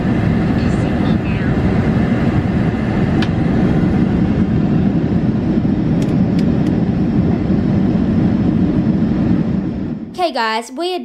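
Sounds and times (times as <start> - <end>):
airliner cabin engine rumble: 0.0 - 10.2.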